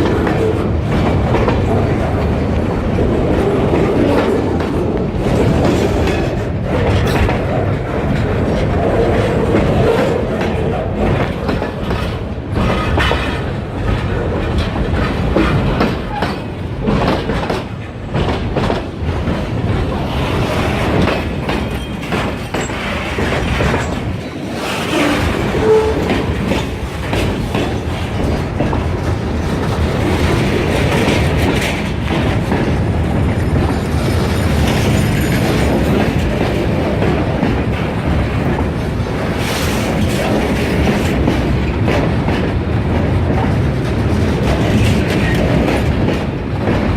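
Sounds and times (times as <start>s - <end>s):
train wheels clacking on rails: 0.0s - 46.9s.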